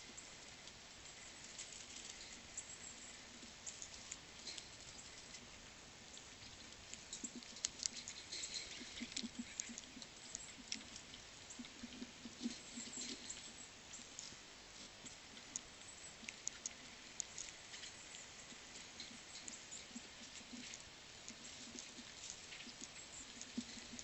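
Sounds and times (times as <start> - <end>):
animals pecking and nibbling: 0.0 - 24.0.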